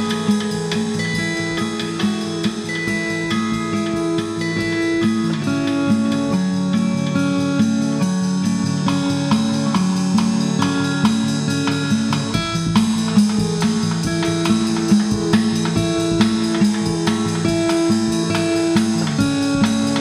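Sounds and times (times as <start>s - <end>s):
acoustic guitar picking: 0.0s - 20.0s.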